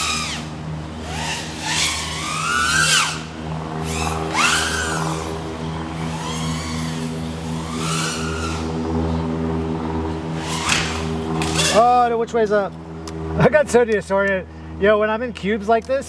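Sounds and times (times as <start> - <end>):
drone motors whining: 0.0 - 15.0
low hum: 0.0 - 16.0.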